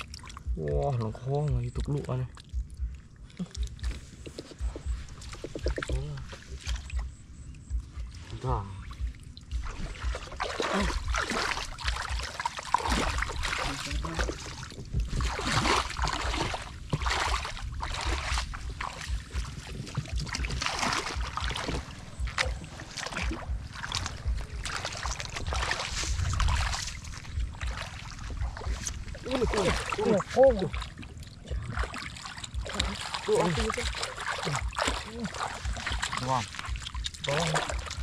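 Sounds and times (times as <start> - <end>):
shallow water splashing: 0.0 - 38.0
wind rumbling on microphone: 0.0 - 38.0.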